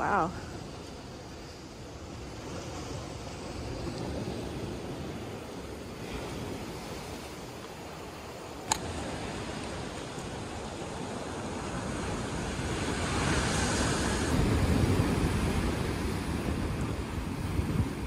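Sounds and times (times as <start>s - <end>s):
ocean surf washing in: 0.0s - 18.0s
wind on microphone: 0.0s - 18.0s.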